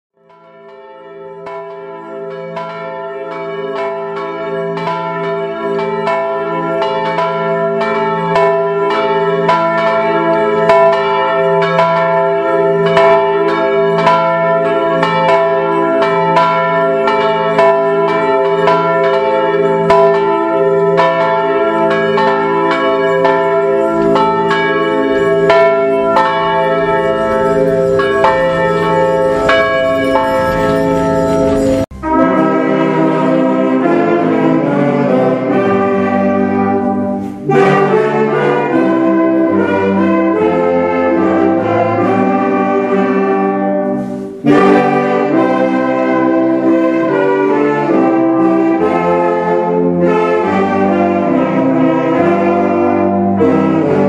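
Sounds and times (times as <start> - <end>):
church bells pealing: 0.2 - 54.0.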